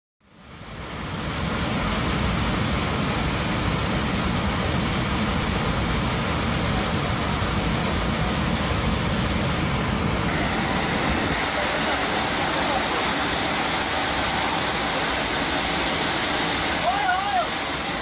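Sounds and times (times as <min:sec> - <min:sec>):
jet engine noise: 0:00.2 - 0:18.0
rushing air in aircraft cabin: 0:00.2 - 0:18.0.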